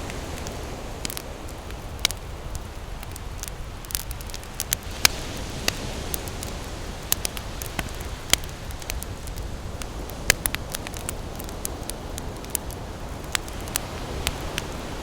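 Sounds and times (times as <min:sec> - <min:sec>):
campfire crackling and popping: 0:00.0 - 0:15.0
ocean surf rumbling: 0:00.0 - 0:15.0.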